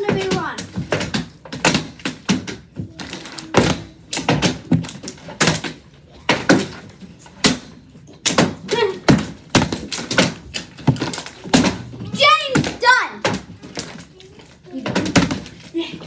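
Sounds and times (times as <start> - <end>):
plastic bottles landing on a table: 0.0 - 14.0, 14.8 - 15.7.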